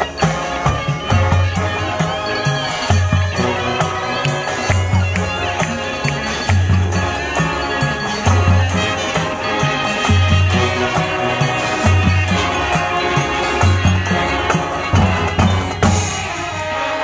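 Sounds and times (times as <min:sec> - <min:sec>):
marching band playing rock: 0:00.0 - 0:17.0.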